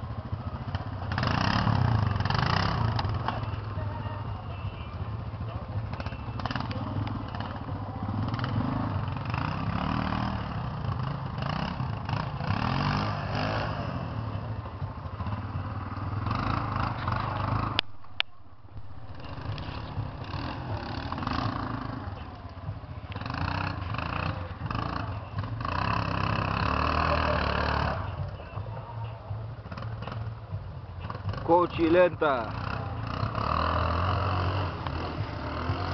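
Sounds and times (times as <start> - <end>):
quad bike engine revving: 0.0 - 17.8, 18.9 - 28.7, 29.6 - 35.9.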